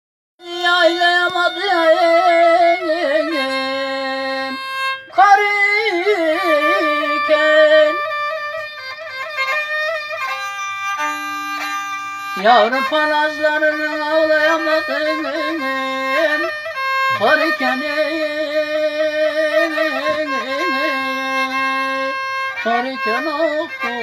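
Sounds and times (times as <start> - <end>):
violin playing folk melody: 0.4 - 24.0.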